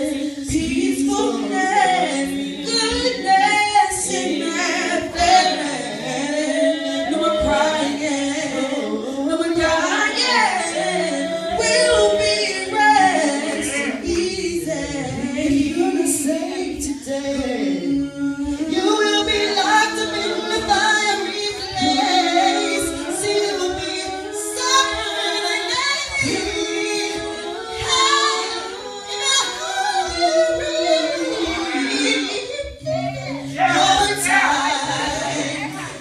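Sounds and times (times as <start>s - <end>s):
vocal group singing in harmony: 0.0s - 36.0s.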